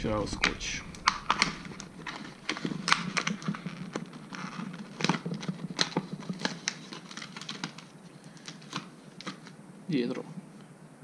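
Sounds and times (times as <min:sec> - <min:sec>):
plastic packaging crinkling and clicking: 0:00.2 - 0:09.6.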